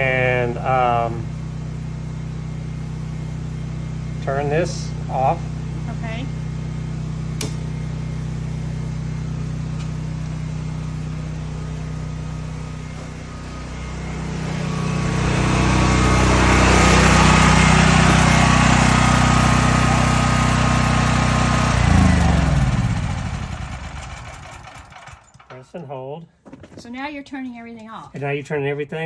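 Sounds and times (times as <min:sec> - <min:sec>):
generator engine winding down: 0:00.0 - 0:25.6
generator engine running: 0:00.0 - 0:25.7.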